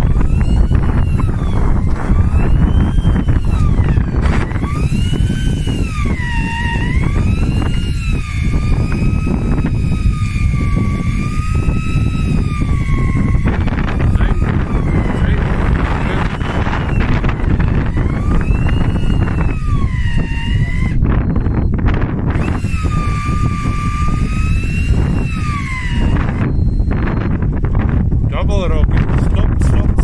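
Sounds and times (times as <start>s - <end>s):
fishing reel motor whining: 0.0s - 28.2s
wind on microphone: 0.0s - 30.0s.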